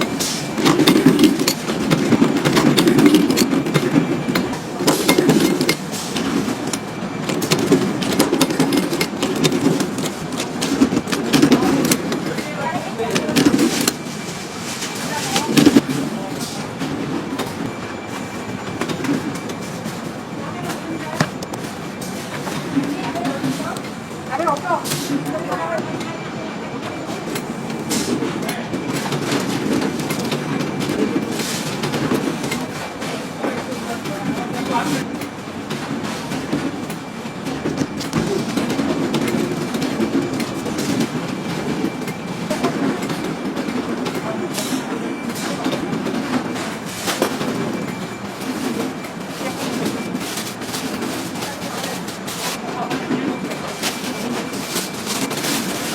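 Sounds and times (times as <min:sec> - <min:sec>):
knitting machines clattering: 0:00.0 - 0:55.9
steady machine hum: 0:00.0 - 0:55.9.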